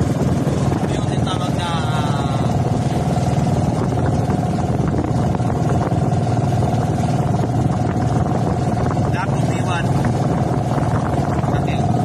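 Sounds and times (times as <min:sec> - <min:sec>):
boat engine drone with whine: 0:00.0 - 0:12.0.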